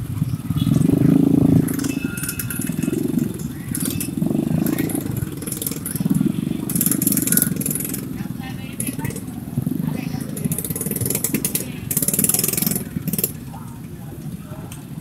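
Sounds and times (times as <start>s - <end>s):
small motorcycle engines running: 0.0s - 15.0s.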